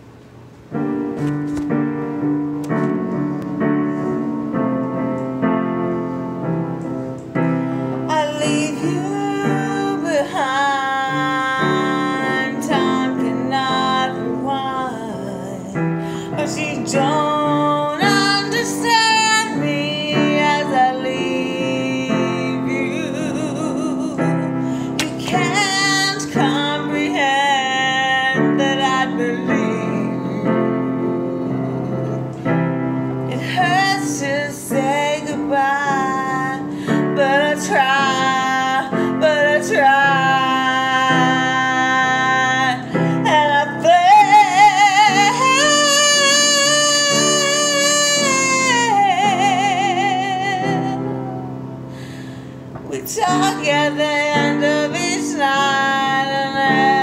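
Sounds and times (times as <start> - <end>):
woman singing: 7.9 - 32.2, 33.1 - 51.5, 52.9 - 57.0.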